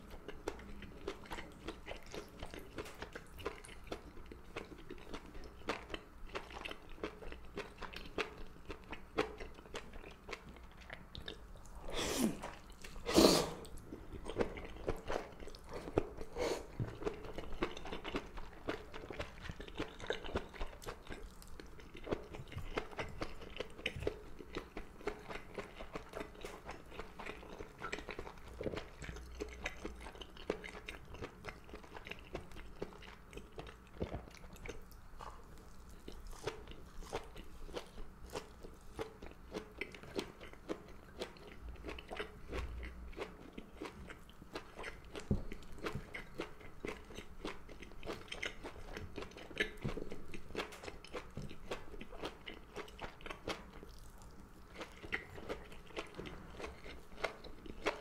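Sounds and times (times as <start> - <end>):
close chewing and biting: 0.0 - 58.0.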